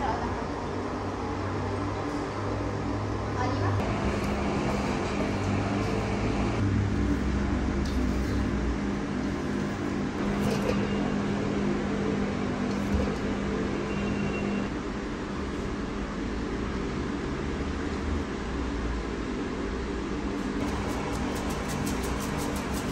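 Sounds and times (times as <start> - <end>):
machine hum with low drone: 0.0 - 22.9.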